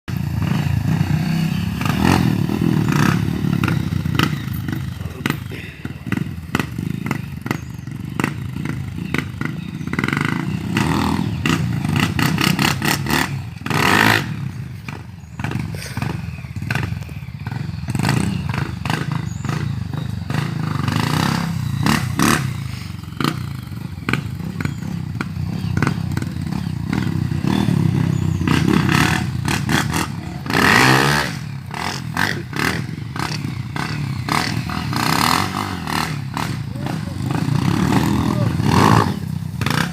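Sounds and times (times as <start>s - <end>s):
motorcycle engines revving: 0.1s - 39.9s.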